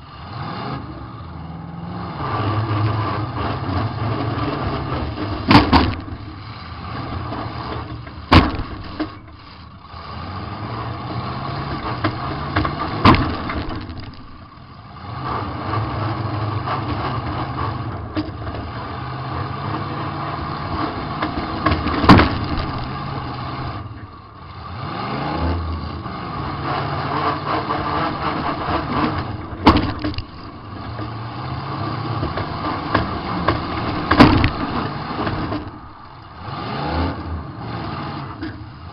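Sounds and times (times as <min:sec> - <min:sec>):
car engine revving: 0:00.0 - 0:38.9
cars crashing: 0:01.6 - 0:38.9.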